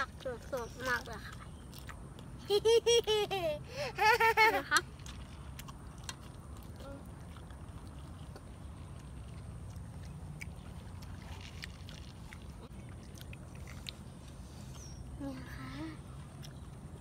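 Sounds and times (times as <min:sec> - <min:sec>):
people chewing food: 0:00.0 - 0:17.0.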